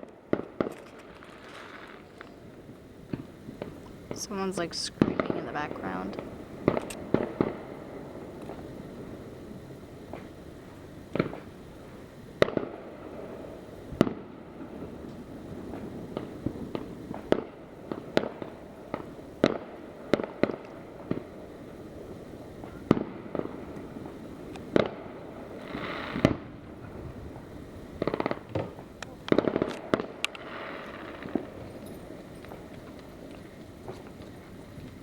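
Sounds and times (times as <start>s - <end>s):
distant fireworks bangs: 0.0s - 35.0s
fireworks crackle: 0.0s - 35.0s.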